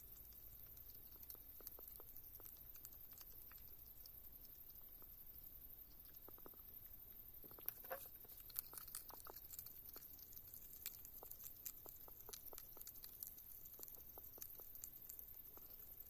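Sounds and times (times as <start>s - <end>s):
animal chewing fish: 0.0s - 16.0s.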